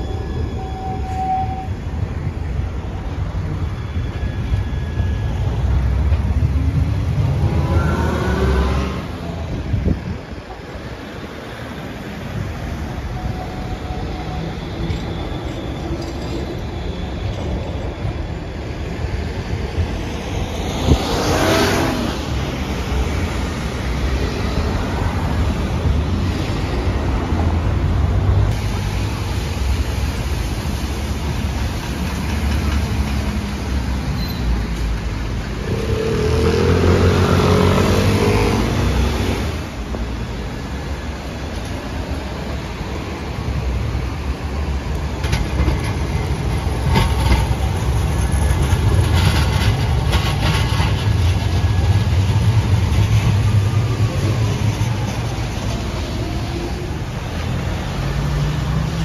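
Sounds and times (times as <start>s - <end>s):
cars and trams passing: 0.0s - 59.0s.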